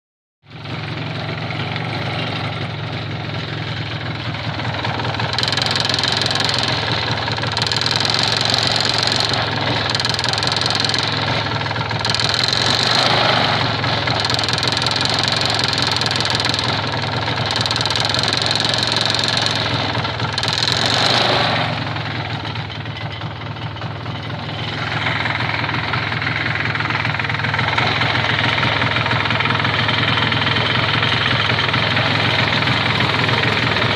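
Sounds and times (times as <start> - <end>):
engine knocking: 0.5 - 33.9
motorcycle engine revving: 0.5 - 33.9.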